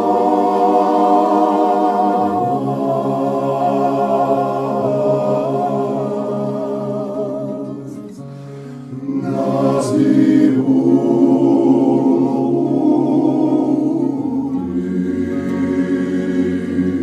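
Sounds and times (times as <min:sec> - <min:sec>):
choir singing in parts: 0:00.0 - 0:17.0.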